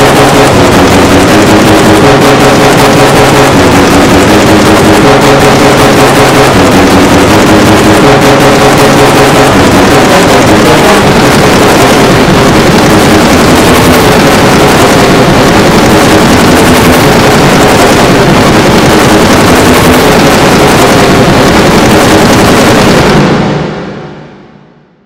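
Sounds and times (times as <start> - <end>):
distorted alarm noise roar: 0.0 - 25.0
low droning hum: 0.0 - 25.0.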